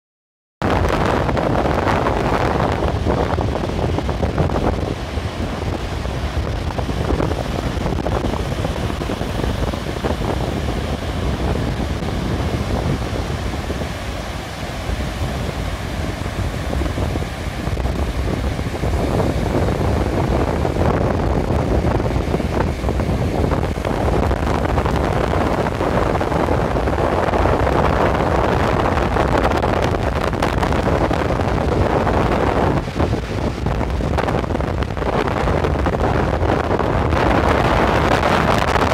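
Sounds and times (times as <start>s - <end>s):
surf breaking on shore: 0.6s - 38.9s
wind buffeting microphone: 0.6s - 38.9s.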